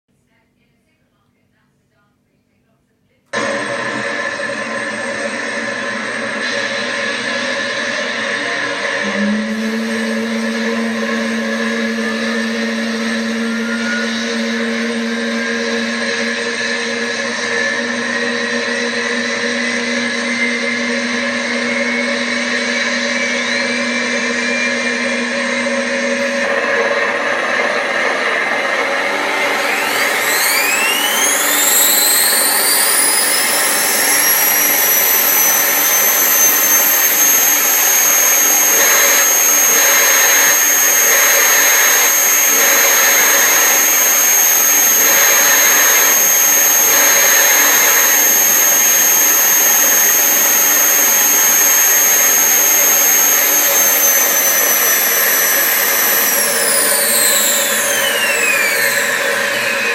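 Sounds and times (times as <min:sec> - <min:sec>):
simulated helicopter turbine whine: 0:04.9 - 0:59.9.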